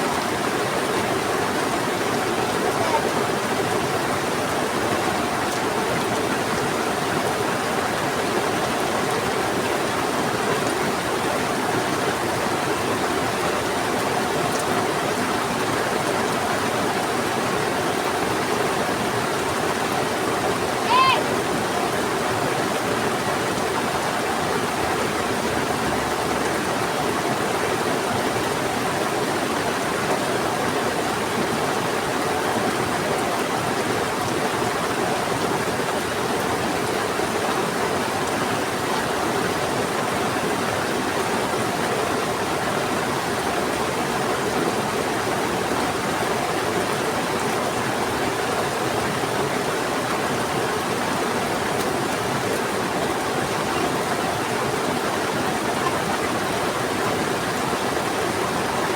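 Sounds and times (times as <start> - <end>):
heavy rain: 0.0 - 58.9
river rushing: 0.0 - 58.9.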